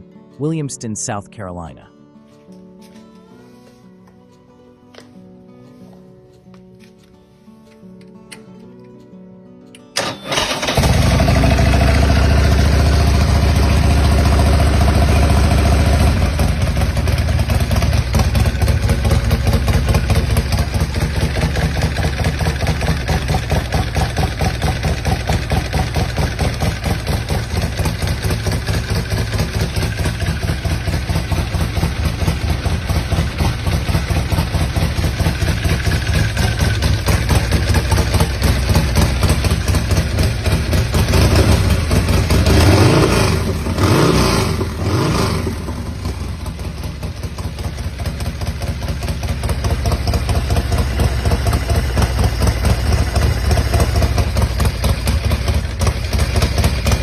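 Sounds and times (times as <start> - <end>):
motorcycle engine starting and idling: 9.9 - 57.0.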